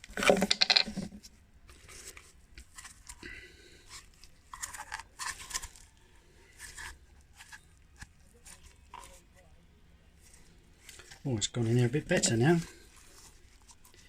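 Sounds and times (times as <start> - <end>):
hands handling small parts: 0.0 - 9.3, 10.2 - 14.0.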